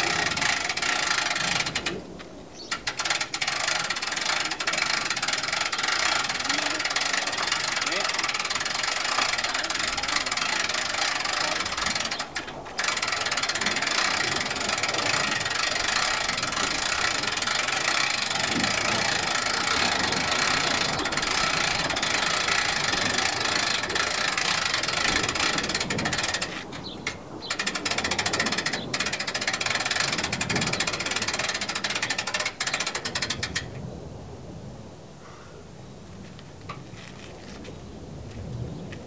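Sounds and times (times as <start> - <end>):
winch rattling: 0.0 - 33.8.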